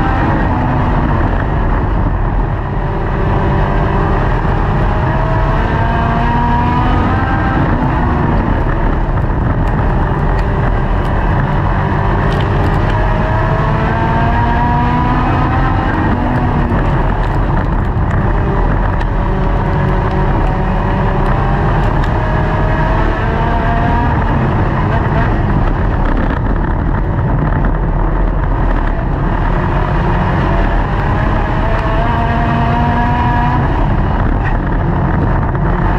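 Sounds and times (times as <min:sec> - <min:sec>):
race car engine revving: 0:00.0 - 0:35.9.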